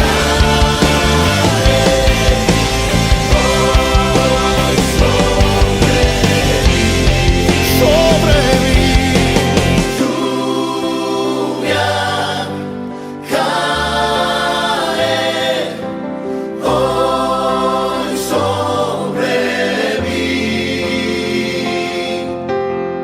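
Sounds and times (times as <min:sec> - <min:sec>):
choir singing held chords: 0:00.0 - 0:22.7
musical accompaniment: 0:00.0 - 0:23.0.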